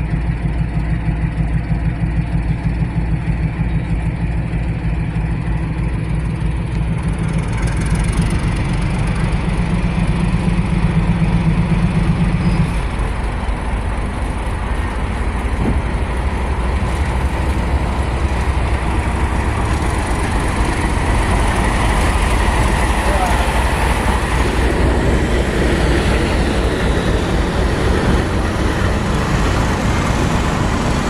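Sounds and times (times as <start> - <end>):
diesel locomotive engine hum: 0.0 - 31.0.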